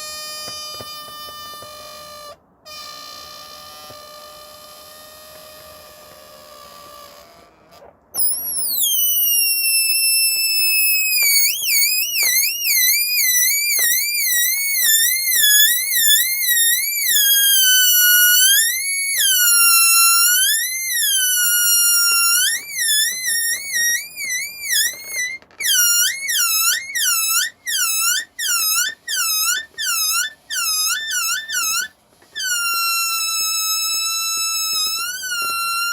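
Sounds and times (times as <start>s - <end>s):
balloon deflating squeal: 0.0s - 35.9s.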